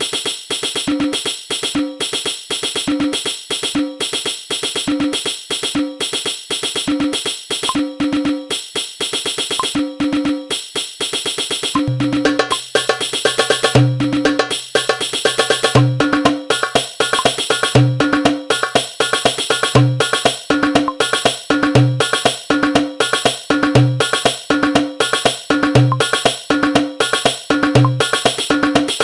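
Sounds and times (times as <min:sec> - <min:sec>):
hand drum percussion rhythm: 0:00.7 - 0:29.0.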